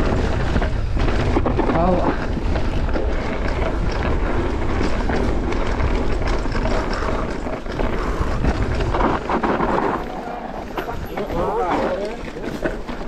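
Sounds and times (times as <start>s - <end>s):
bike rattling: 0.0s - 13.0s
tyres rolling on rock: 0.0s - 13.0s
wind rumble on microphone: 0.0s - 13.0s.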